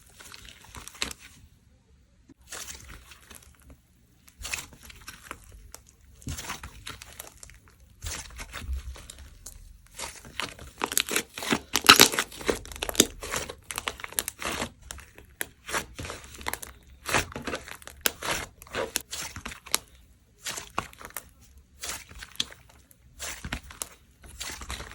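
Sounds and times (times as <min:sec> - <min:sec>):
slime crackling and tearing: 0:04.2 - 0:24.9.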